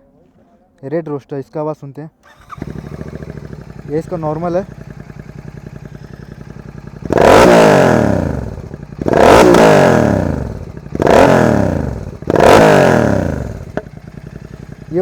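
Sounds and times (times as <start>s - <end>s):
motorcycle engine revving: 2.2s - 15.0s.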